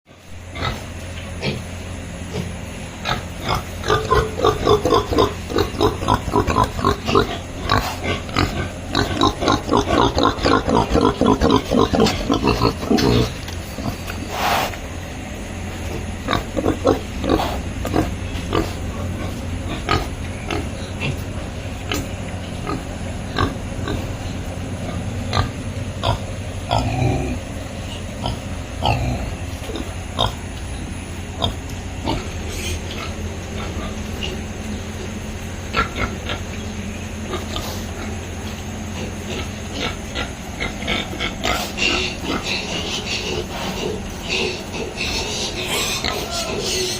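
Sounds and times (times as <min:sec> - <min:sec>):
steady low hum: 0:00.1 - 0:46.9
piglets grunting: 0:00.2 - 0:15.0, 0:15.7 - 0:46.9.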